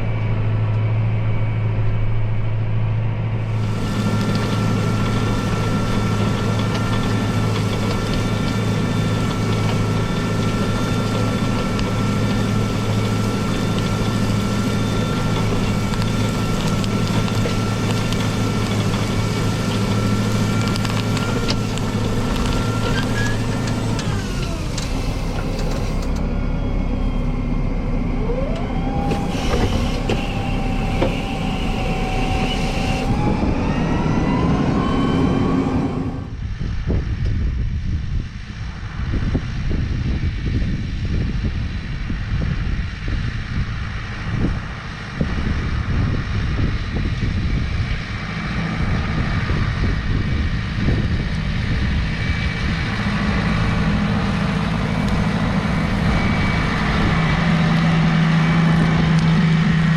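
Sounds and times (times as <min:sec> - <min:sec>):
rising whine: 0:00.0 - 0:59.9
tractor engine running: 0:00.0 - 0:59.9
rough rumble with knocks: 0:03.4 - 0:26.3, 0:27.6 - 0:38.2, 0:39.1 - 0:59.9.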